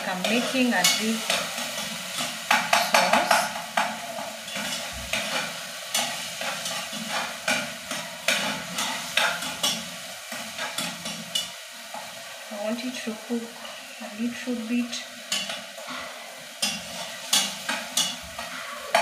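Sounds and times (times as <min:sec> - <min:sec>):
sauce sizzling: 0:00.0 - 0:19.0.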